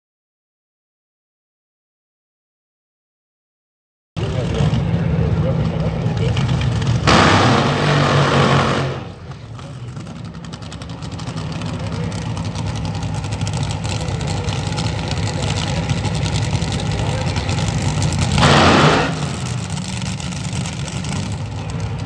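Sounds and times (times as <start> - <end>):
drag racing car engines roaring: 4.2 - 22.0
rapidly pulsing engine: 4.2 - 22.0.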